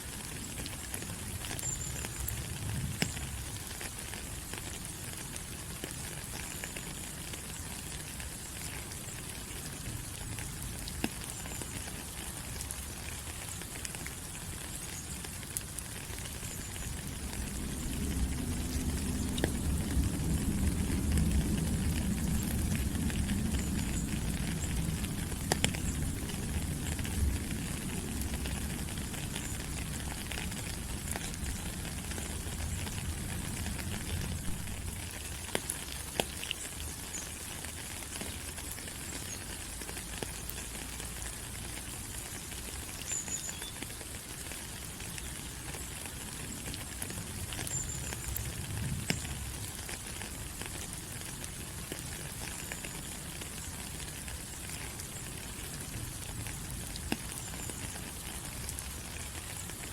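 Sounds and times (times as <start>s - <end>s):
rain falling on leaves: 0.0s - 59.9s
water drips ticking: 0.6s - 59.9s.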